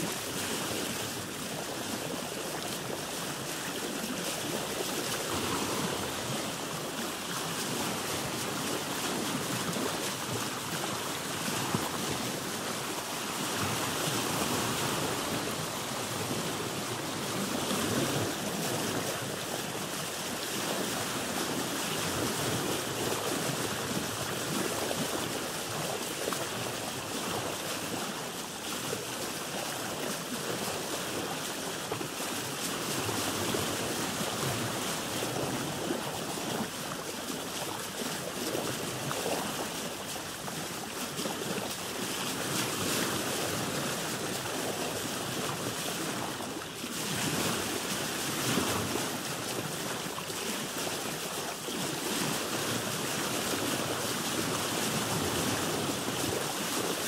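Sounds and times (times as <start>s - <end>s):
water lapping around a boat: 0.0s - 57.0s.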